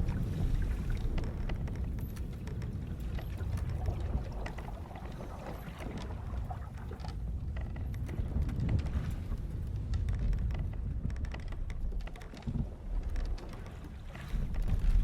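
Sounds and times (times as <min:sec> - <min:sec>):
rumble of sea and wind: 0:00.0 - 0:15.0
wooden ship creaks and knocks: 0:00.0 - 0:15.0.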